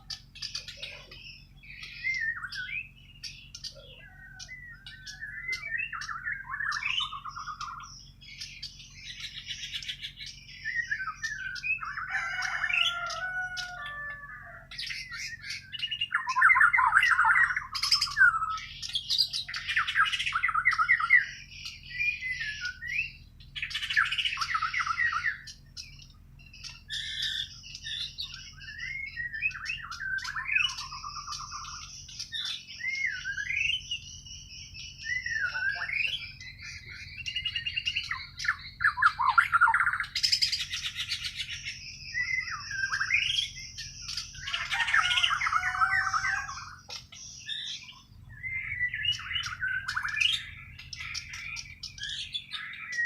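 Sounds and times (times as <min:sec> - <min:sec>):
bird singing trills and whistles: 0:00.0 - 0:53.0.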